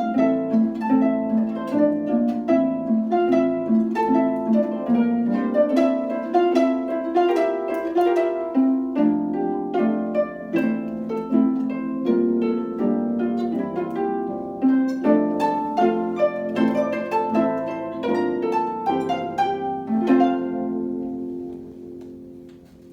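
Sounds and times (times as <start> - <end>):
harps playing plucked notes: 0.0 - 22.9.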